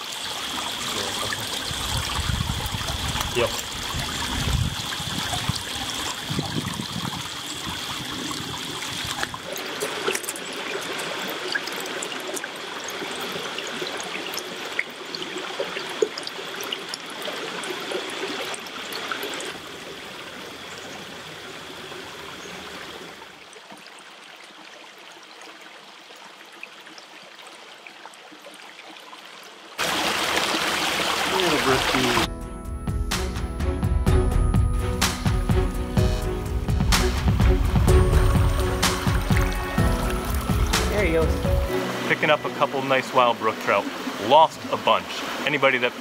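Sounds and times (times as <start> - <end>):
brook trickling over stones: 0.0 - 32.3, 37.9 - 46.0.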